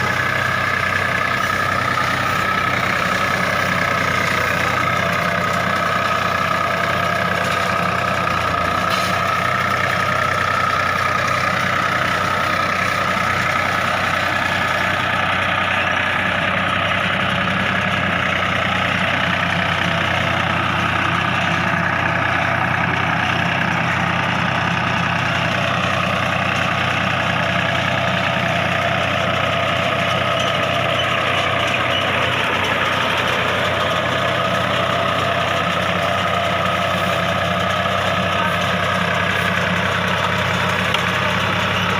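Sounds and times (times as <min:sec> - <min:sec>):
tractor engine droning: 0:00.0 - 0:41.9.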